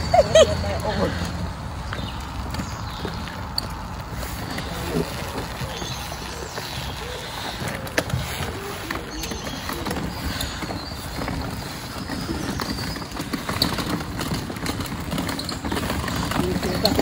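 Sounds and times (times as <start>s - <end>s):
wheelchair wheels rolling on pavement: 0.0s - 17.0s
footsteps: 1.8s - 17.0s
clicks and rattles: 2.0s - 17.0s.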